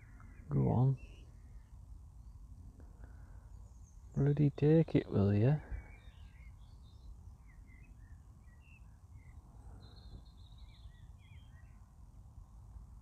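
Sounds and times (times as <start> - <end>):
low steady background rumble: 0.0 - 13.0
small birds chirping: 0.0 - 13.0.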